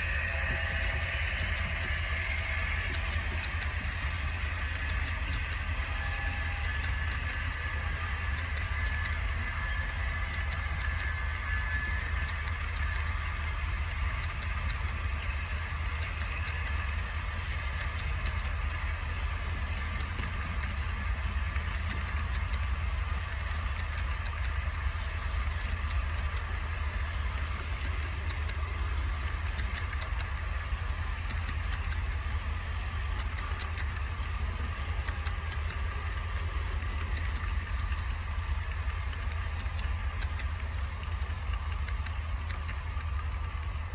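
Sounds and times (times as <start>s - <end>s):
model train hum and whine: 0.0s - 43.9s.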